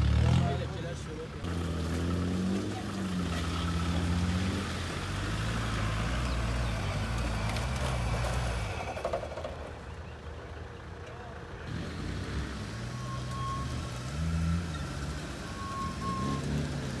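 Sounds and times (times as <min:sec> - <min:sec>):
car engine pulling at low speed: 0:00.0 - 0:17.0.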